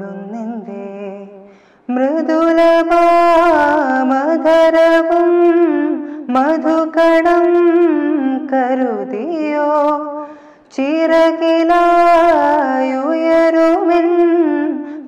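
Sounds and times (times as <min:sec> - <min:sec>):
young man singing: 0:00.0 - 0:15.0.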